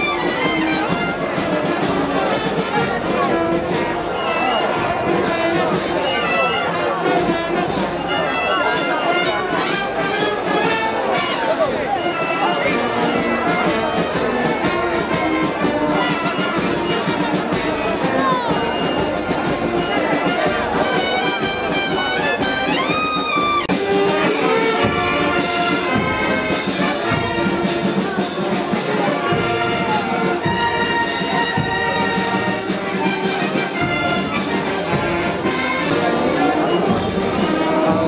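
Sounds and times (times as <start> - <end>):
brass band playing a tune: 0.0 - 38.0.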